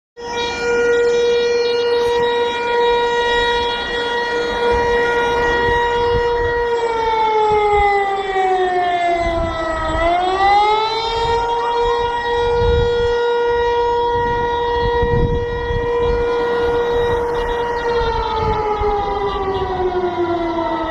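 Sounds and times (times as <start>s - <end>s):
emergency alert siren tone: 0.2s - 20.9s.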